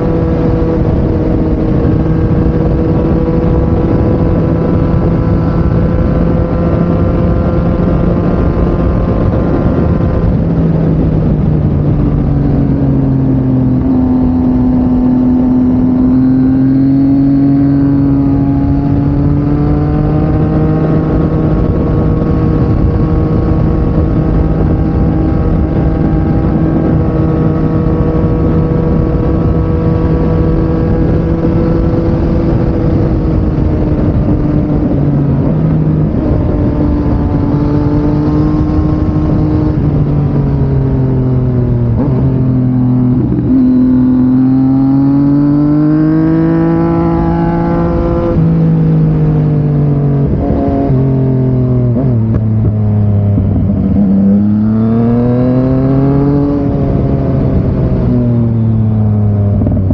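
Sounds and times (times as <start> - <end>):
constant rushing noise: 0.0 - 59.9
motorcycle engine running: 0.0 - 59.9.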